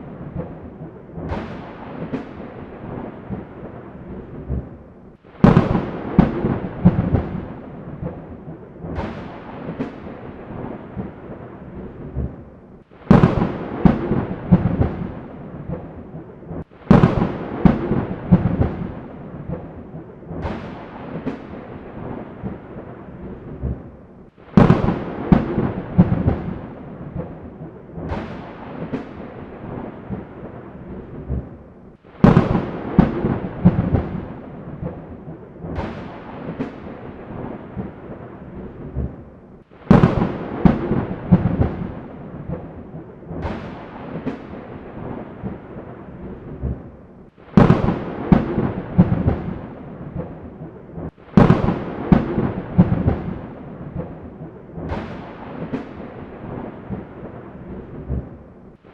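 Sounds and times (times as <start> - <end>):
steady rain: 0.0 - 58.9
thunder rolling: 0.0 - 58.9.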